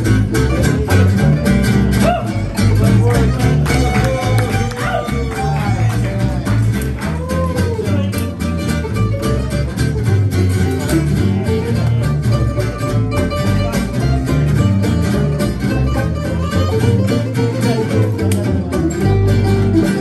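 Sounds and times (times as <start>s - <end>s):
stepping bass notes: 0.0s - 20.0s
strummed acoustic guitars: 0.0s - 20.0s.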